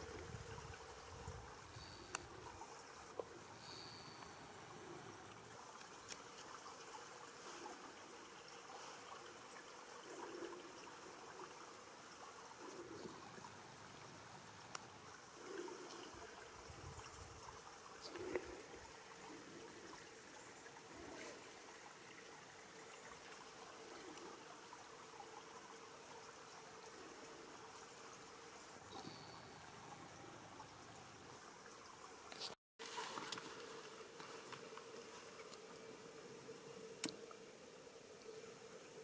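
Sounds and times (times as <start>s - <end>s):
soft gurgle: 0.0s - 35.9s
faint trickling water: 0.0s - 39.0s
light dripping ticks: 0.1s - 32.5s, 34.2s - 35.9s, 36.5s - 37.5s.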